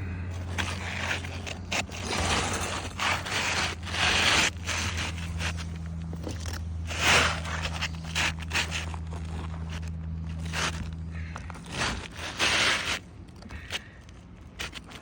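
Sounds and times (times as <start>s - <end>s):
steady low hum: 0.0s - 15.0s
roof shingles scraping: 0.4s - 15.0s.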